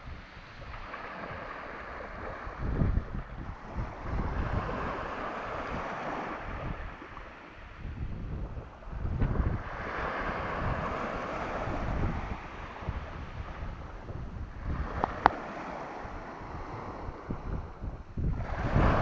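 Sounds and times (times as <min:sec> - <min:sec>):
sea waves washing: 0:00.0 - 0:19.0
wind buffeting microphone: 0:00.0 - 0:19.0.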